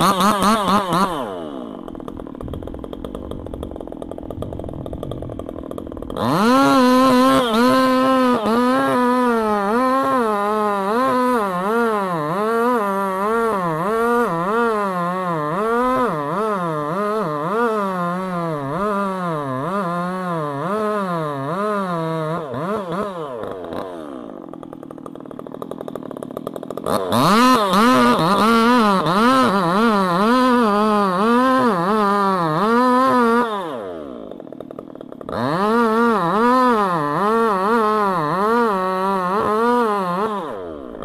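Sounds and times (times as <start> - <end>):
chainsaw running under load: 0.0 - 41.0.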